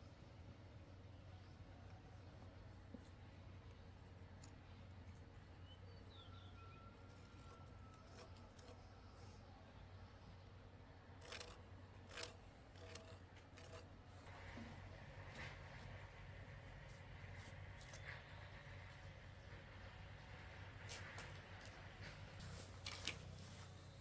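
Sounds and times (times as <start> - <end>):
faint background hum: 0.0 - 24.0.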